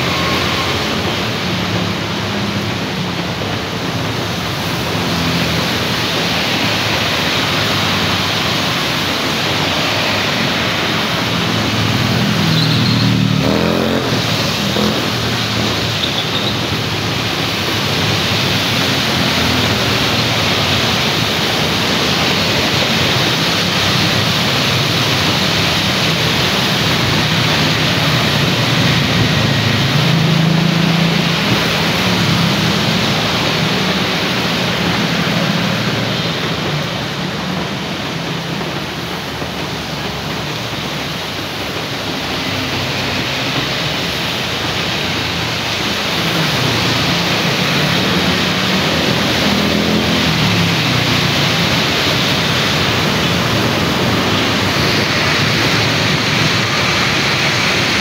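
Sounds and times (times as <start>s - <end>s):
cars and motorbikes passing: 0.0s - 58.0s
steady rain on a wet street: 0.0s - 58.0s
tyres hissing through water: 0.0s - 58.0s.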